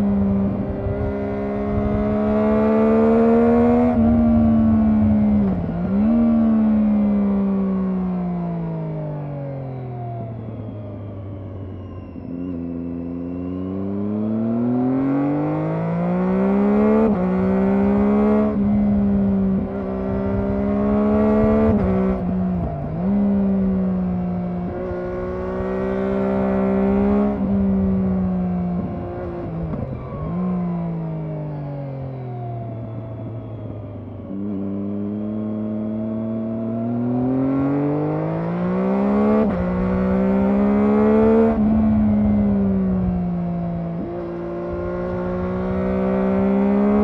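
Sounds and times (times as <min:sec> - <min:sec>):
motorcycle engine revving: 0:00.0 - 0:08.7, 0:12.7 - 0:31.3, 0:32.4 - 0:47.0.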